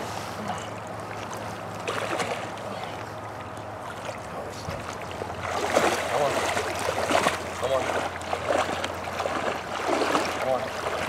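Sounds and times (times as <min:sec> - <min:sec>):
flowing creek water: 0:00.0 - 0:11.0.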